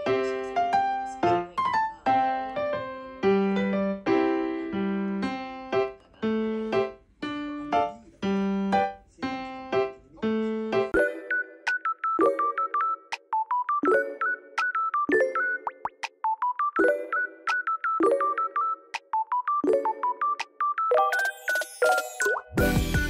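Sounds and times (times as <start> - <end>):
light piano music: 0.0 - 23.0.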